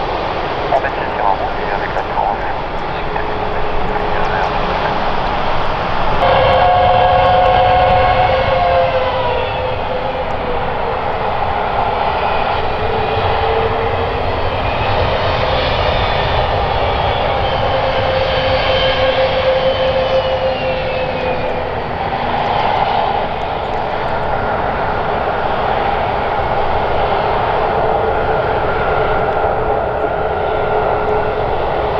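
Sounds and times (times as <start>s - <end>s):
jet engines whining: 0.0s - 31.9s.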